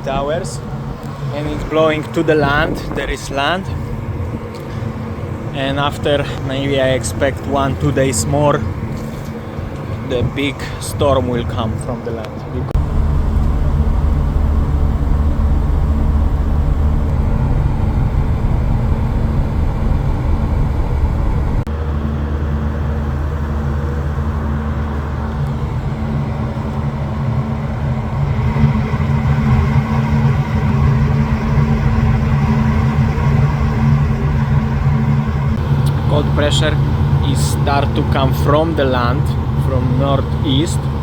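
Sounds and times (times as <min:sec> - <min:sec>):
ship machinery drone: 0:00.0 - 0:41.0.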